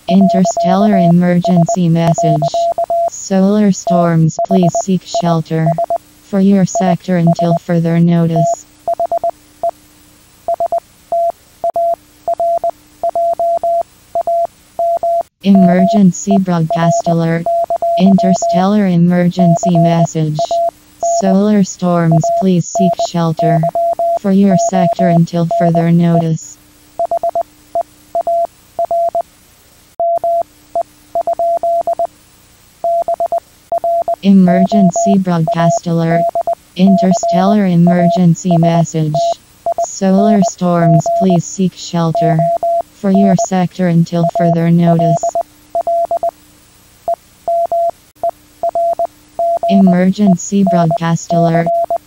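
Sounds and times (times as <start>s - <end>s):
faint steady low hum: 0.0s - 52.0s
electronic alert beeps: 0.1s - 3.1s, 3.7s - 6.0s, 6.6s - 9.3s, 10.5s - 26.4s, 30.0s - 30.4s, 32.8s - 46.3s, 47.5s - 52.0s.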